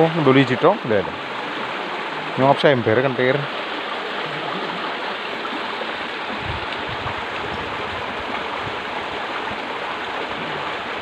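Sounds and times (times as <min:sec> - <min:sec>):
water rushing along concrete channel: 0:00.0 - 0:11.0.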